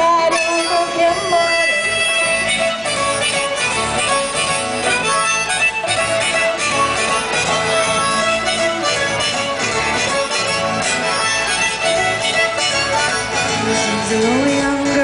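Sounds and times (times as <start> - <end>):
contrabass balalaika: 0.0 - 15.0
lead melody: 0.0 - 15.0
plucked strings: 0.0 - 15.0.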